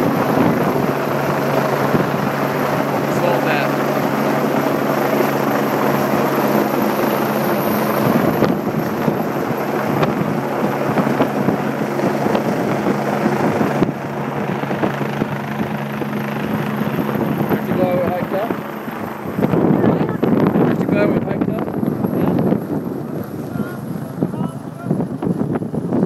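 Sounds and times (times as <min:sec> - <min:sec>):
helicopter rotor drone: 0:00.0 - 0:26.0.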